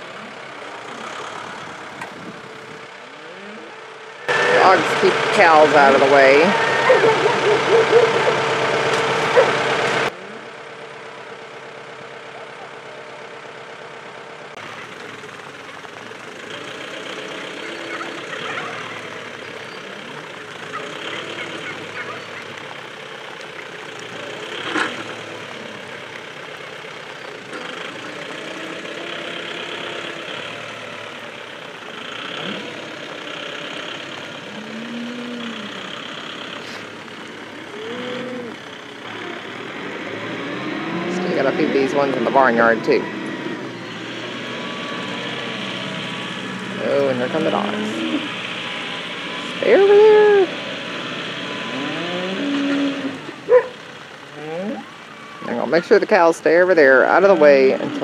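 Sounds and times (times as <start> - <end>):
farm vehicle engine running: 0.0 - 58.0.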